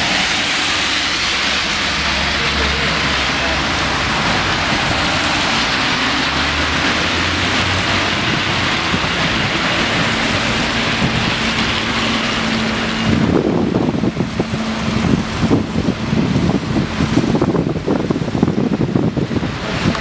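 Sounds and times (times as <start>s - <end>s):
bus engine running: 0.0s - 20.0s
rain and tyres on wet road: 0.0s - 20.0s
wind buffeting microphone: 0.0s - 20.0s.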